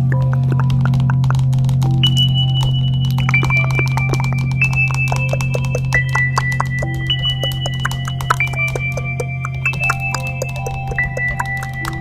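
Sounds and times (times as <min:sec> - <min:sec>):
high held tones: 0:00.0 - 0:12.0
quick percussive notes: 0:00.0 - 0:12.0.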